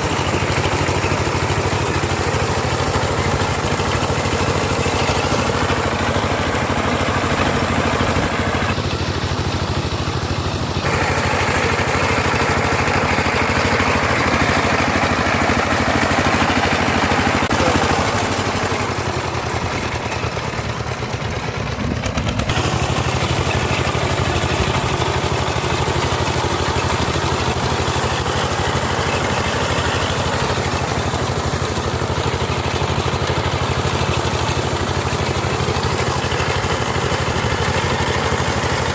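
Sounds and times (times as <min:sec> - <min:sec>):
small harvester engine running: 0:00.0 - 0:38.9.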